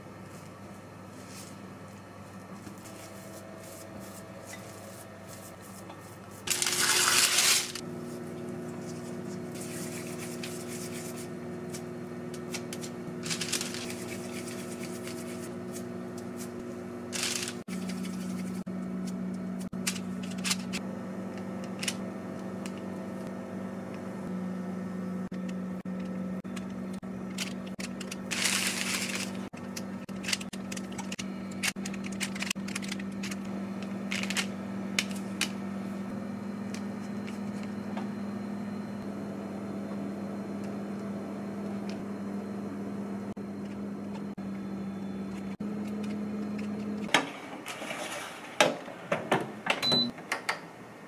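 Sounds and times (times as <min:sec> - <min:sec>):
steady low hum: 0:00.0 - 0:50.1.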